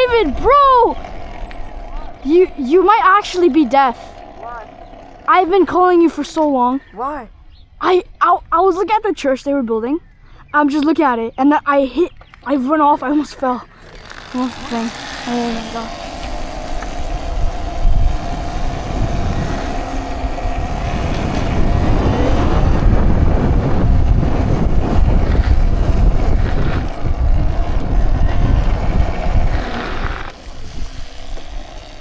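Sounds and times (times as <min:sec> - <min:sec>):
electric motor whine: 0:00.0 - 0:06.9, 0:13.0 - 0:32.0
road noise: 0:00.0 - 0:09.0, 0:10.4 - 0:32.0
wind buffeting microphone: 0:00.0 - 0:09.8, 0:11.9 - 0:32.0.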